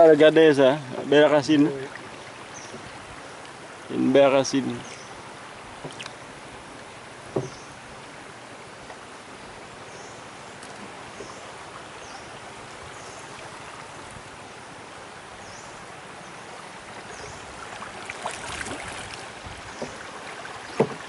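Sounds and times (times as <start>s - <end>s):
water rushing against boat: 0.0s - 21.0s
water splashes: 0.0s - 21.0s.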